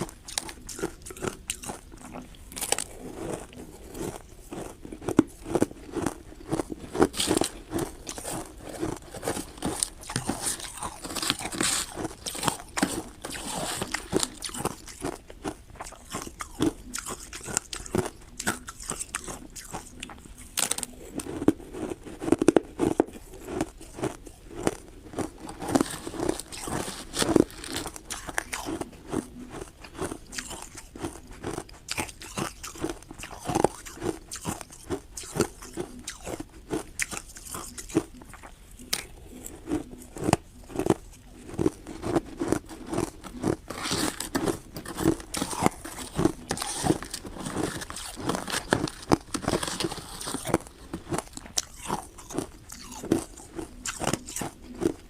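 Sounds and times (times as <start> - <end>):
ice crunching between teeth: 0.0 - 55.0.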